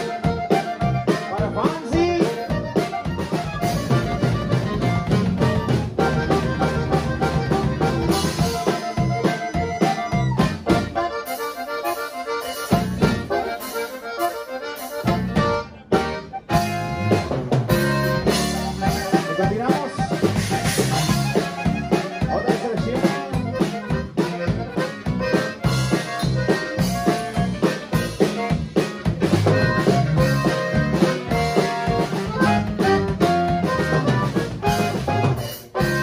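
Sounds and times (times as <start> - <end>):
button accordion runs: 0.0 - 36.0
live band playing: 0.0 - 36.0.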